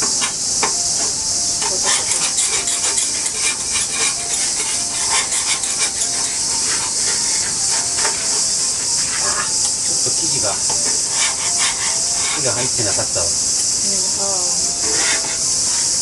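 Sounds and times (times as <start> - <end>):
crickets chirping: 0.0 - 16.0
food sizzling on griddle: 0.0 - 16.0.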